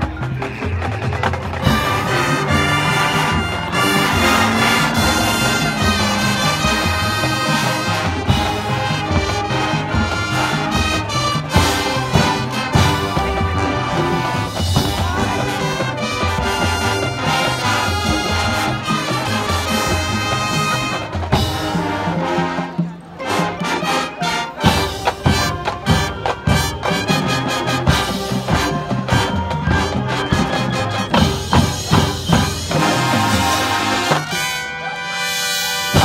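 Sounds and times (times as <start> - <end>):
marching band playing: 0.0 - 36.0.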